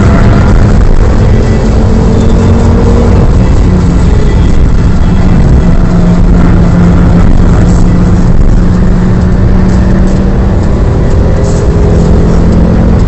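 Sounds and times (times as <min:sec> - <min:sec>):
car engine pulling steadily: 0:00.0 - 0:13.0
wind noise: 0:00.0 - 0:13.0.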